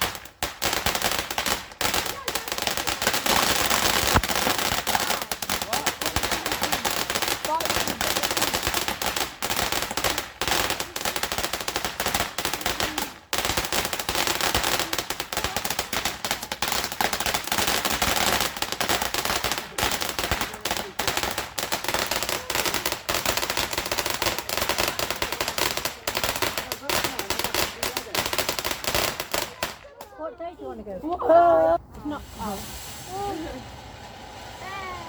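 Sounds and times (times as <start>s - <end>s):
fireworks crackling bangs: 0.0s - 30.2s, 32.2s - 35.0s.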